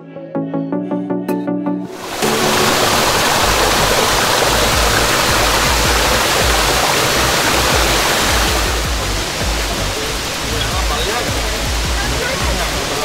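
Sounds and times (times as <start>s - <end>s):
waterfall rushing: 1.9s - 13.0s.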